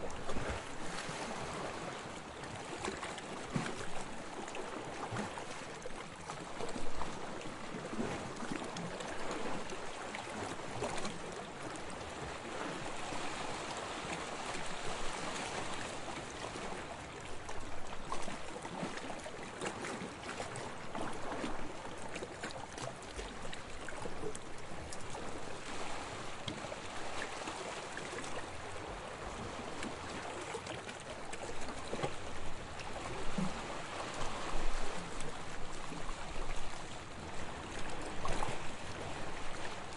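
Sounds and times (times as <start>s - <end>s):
small waves lapping on sand: 0.0s - 39.9s.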